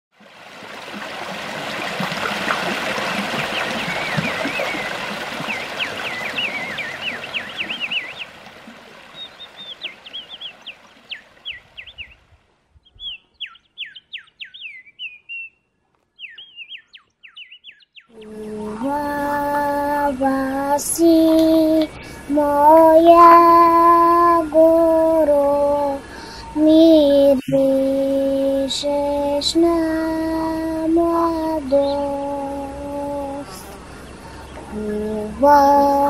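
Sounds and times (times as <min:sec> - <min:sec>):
stream trickling over rocks: 0:00.1 - 0:12.0, 0:18.3 - 0:36.0
songbirds chirping: 0:00.7 - 0:36.0.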